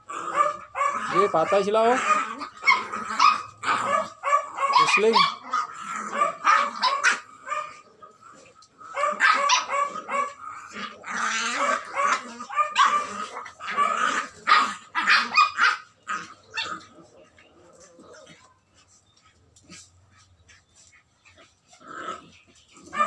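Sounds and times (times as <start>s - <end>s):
puppies barking: 0.0s - 23.0s.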